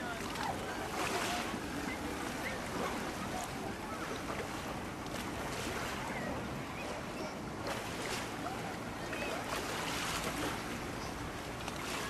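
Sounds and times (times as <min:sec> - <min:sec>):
faint distant voices: 0:00.0 - 0:12.0
small outboard motor running: 0:00.0 - 0:12.0.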